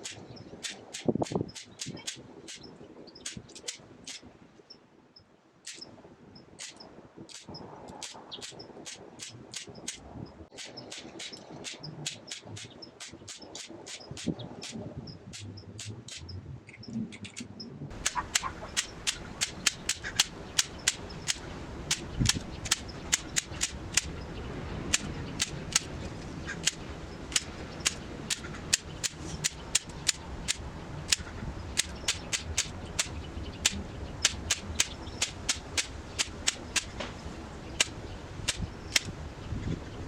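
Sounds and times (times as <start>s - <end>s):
sharp snapping clicks: 0.0s - 4.2s, 6.6s - 10.0s, 10.6s - 24.2s, 24.9s - 25.9s, 26.6s - 37.1s, 37.8s - 39.1s
low steady background noise: 0.0s - 40.0s.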